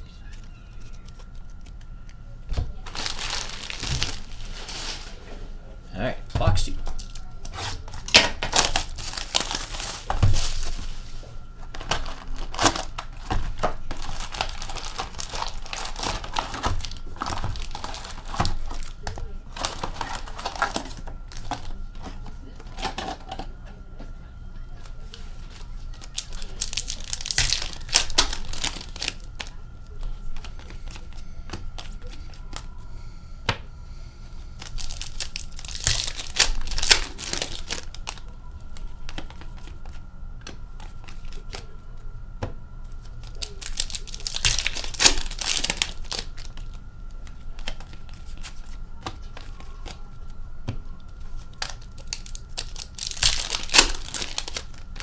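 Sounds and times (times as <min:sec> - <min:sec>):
foil wrappers crinkling and ripping: 0:00.0 - 0:05.2, 0:06.8 - 0:23.4, 0:24.8 - 0:32.7, 0:34.6 - 0:40.0, 0:42.9 - 0:50.4, 0:51.0 - 0:55.0
cards rustling and clicking: 0:00.1 - 0:05.1, 0:06.8 - 0:23.5, 0:24.8 - 0:32.7, 0:34.6 - 0:41.7, 0:42.9 - 0:50.4, 0:51.0 - 0:55.0.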